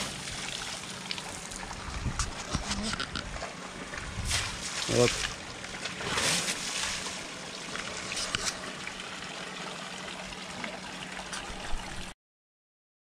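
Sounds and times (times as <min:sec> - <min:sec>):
water trickling and splashing: 0:00.0 - 0:12.2.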